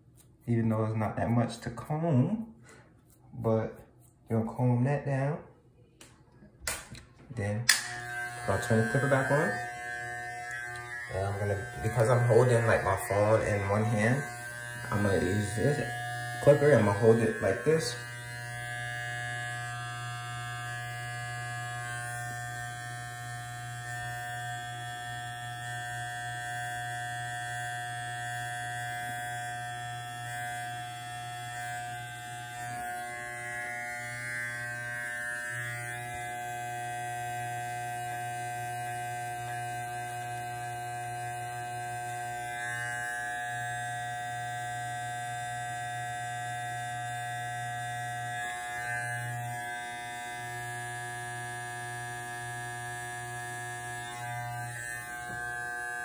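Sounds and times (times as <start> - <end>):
electric hair clipper buzzing: 6.7 - 56.0.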